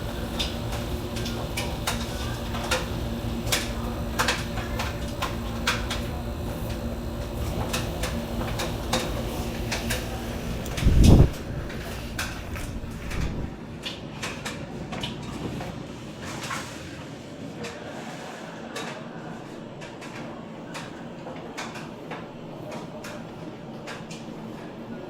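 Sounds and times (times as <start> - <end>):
washing machine low rumble: 0.0 - 25.0.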